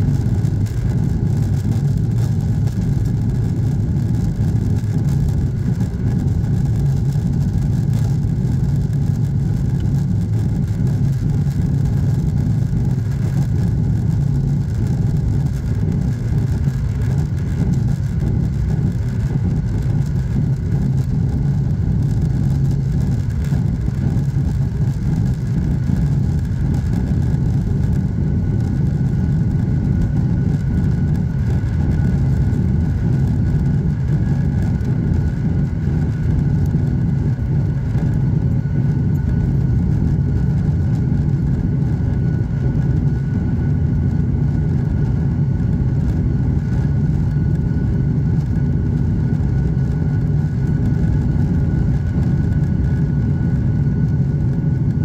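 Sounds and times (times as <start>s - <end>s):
faint engine whine: 0.0s - 55.0s
jet engines roaring in cabin: 0.0s - 55.0s.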